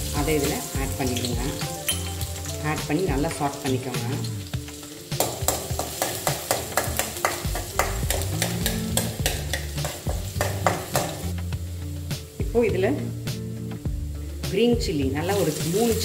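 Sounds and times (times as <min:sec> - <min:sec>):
garlic sizzling in oil: 0:00.0 - 0:16.0.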